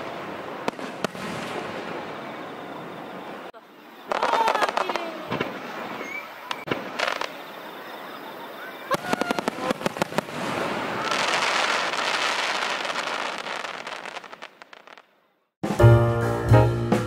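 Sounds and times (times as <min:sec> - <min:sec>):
fireworks crackling hiss: 0:00.0 - 0:15.2
fireworks bangs and crackles: 0:00.0 - 0:15.3.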